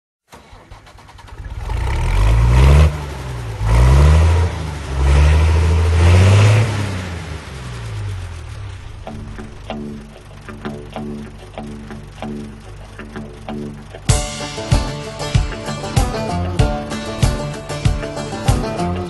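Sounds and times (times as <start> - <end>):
tractor engine revving: 0.3 - 19.0.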